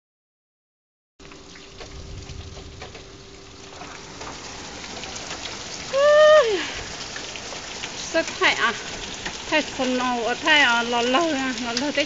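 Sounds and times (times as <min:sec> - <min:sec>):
hail pattering on surfaces: 0:01.8 - 0:12.0.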